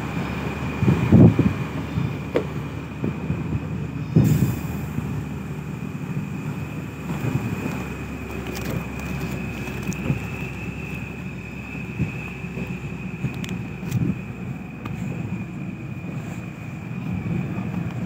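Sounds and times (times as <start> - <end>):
vehicle low rumble: 0.0 - 18.0.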